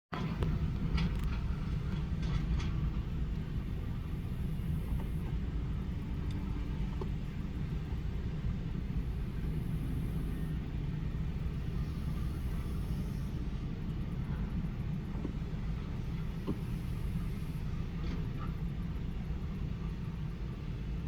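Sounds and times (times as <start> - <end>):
heavy diesel machinery rumble: 0.2 - 21.0.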